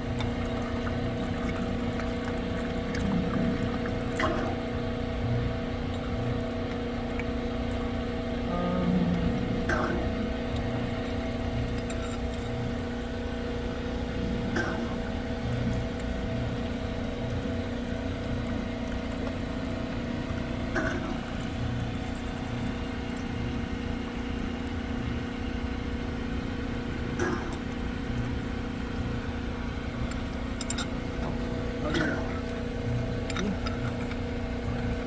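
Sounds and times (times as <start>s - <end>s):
pump engine humming: 0.0s - 35.0s.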